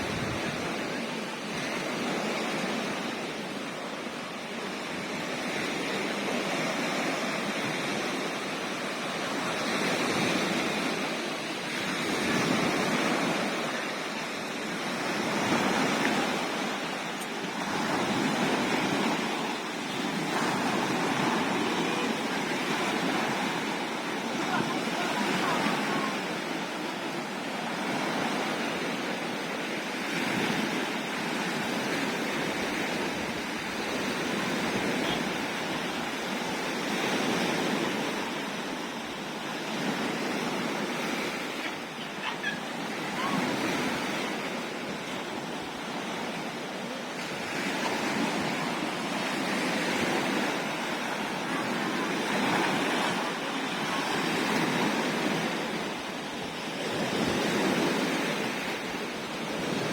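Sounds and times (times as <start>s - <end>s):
waves breaking on shore: 0.0s - 59.9s.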